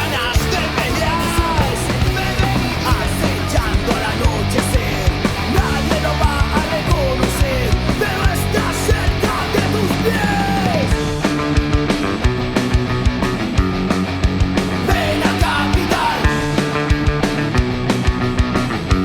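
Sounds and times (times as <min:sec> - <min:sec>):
bending lead guitar: 0:00.0 - 0:19.0
distorted electric guitars: 0:00.0 - 0:19.0
driving drum beat: 0:00.0 - 0:19.0.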